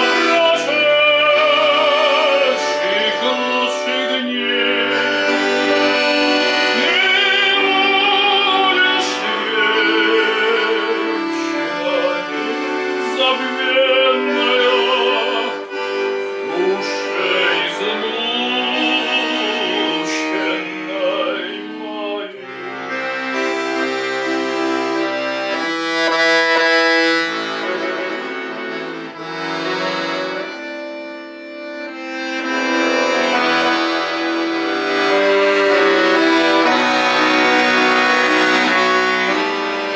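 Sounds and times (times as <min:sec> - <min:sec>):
accordion melody with vibrato: 0:00.0 - 0:39.9
sustained accordion chords: 0:00.0 - 0:39.9.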